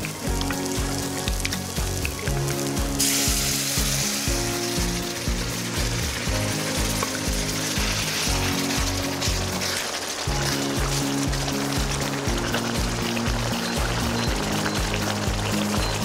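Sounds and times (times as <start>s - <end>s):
background music with steady beat: 0.0s - 16.0s
loud sizzling in a hot pan: 0.0s - 16.0s.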